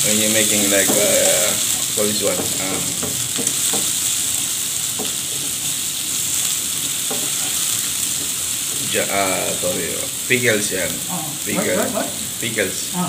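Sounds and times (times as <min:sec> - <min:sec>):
spatula stirring in pan: 0:00.0 - 0:11.0
onions sizzling in oil: 0:00.0 - 0:13.0.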